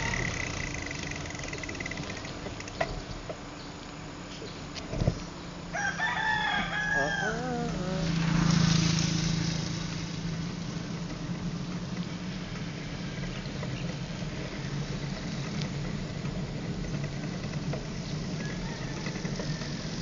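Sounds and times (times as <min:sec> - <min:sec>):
traffic rushing noise: 0:00.0 - 0:20.0
vehicle engine hum: 0:00.0 - 0:20.0.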